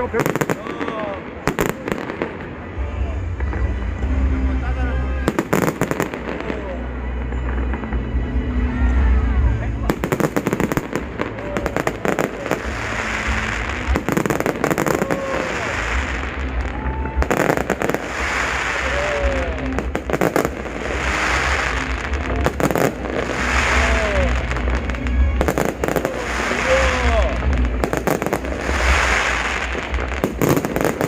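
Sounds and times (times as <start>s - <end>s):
firework crackling: 0.0s - 31.0s.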